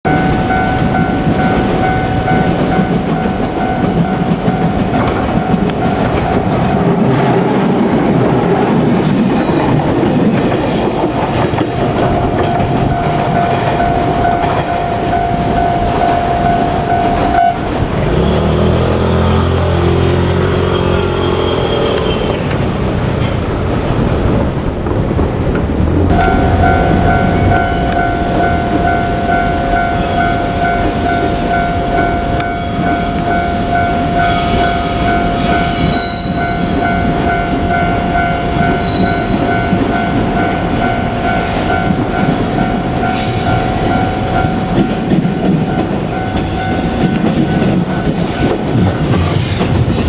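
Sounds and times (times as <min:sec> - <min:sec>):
crossing warning bell: 0:00.0 - 0:23.4, 0:26.1 - 0:50.0
train wheels clacking: 0:00.1 - 0:50.0.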